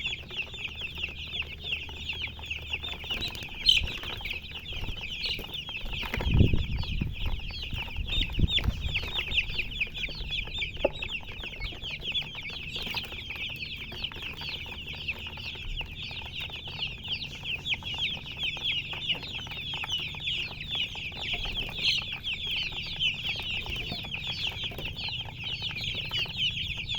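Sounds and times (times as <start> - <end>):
chicks peeping: 0.0 - 26.9.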